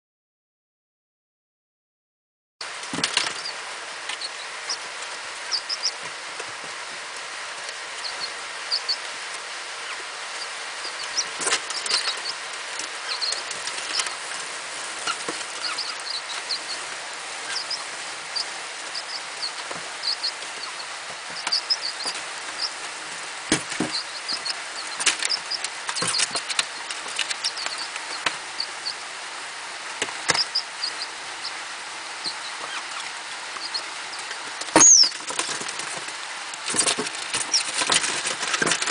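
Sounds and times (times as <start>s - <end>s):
chicks tapping on newspaper: 2.6s - 29.0s, 30.0s - 31.1s, 32.2s - 38.9s
chicks peeping: 2.6s - 38.9s
steady hiss: 2.6s - 38.9s.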